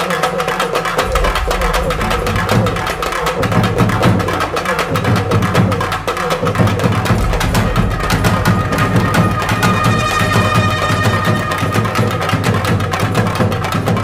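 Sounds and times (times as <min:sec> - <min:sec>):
music with fast beat and heavy bass: 0:00.0 - 0:14.0.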